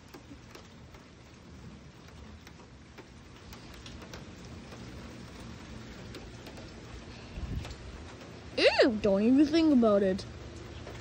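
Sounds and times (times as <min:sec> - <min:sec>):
rain hissing: 0:00.0 - 0:11.0
raindrops ticking: 0:00.0 - 0:11.0.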